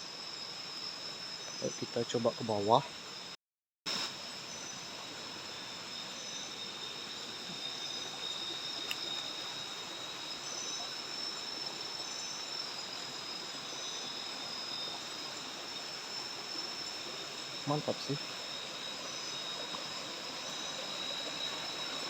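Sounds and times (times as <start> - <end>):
higher insect chirp: 0.0 - 22.0
insects trilling: 0.0 - 22.0.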